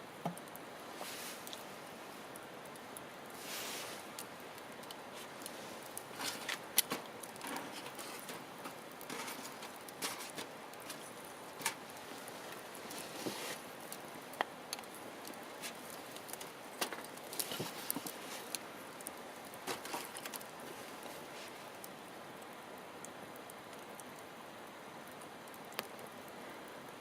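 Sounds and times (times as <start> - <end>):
campfire crackling and popping: 0.0 - 27.0
soft hiss: 0.0 - 27.0.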